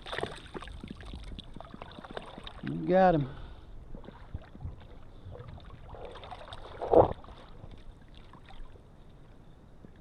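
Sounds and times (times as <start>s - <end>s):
wind and water noise: 0.0s - 10.0s.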